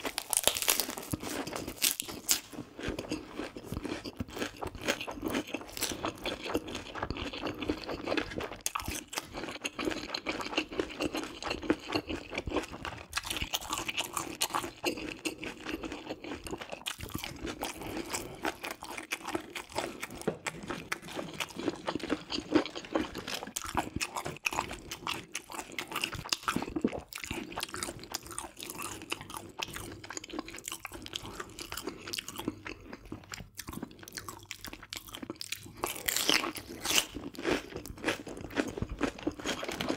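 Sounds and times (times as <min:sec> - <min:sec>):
close chewing with crunching: 0:00.0 - 0:39.9.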